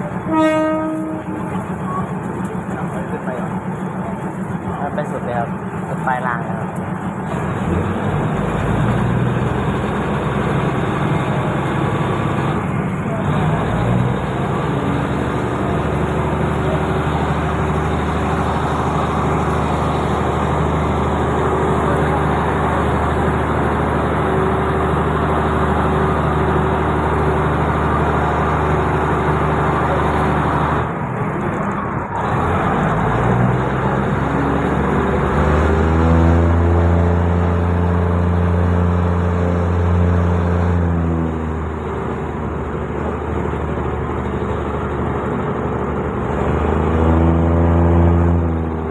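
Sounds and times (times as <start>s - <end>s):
diesel railcar engine humming: 0.0s - 48.9s.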